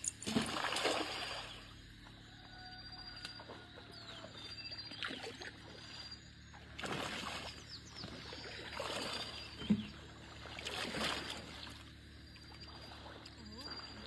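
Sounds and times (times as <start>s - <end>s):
water sloshing around wading person: 0.0s - 2.2s, 2.8s - 14.0s.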